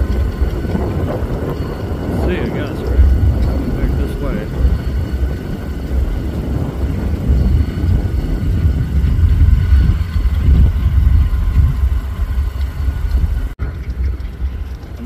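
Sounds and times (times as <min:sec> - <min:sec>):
diesel locomotives idling: 0:00.0 - 0:15.0.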